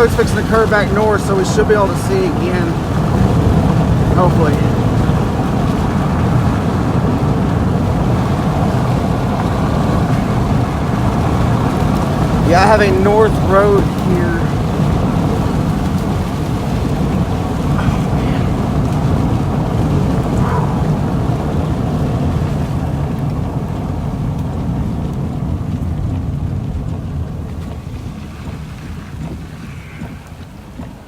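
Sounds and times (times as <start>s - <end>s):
road and engine rumble in car: 0.0s - 31.0s.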